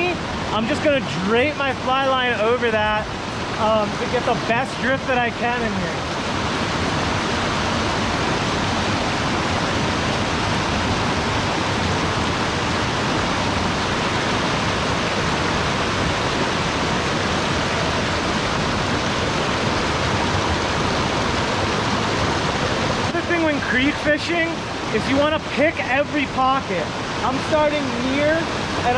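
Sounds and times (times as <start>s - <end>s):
waterfall and creek roaring: 0.0s - 28.9s.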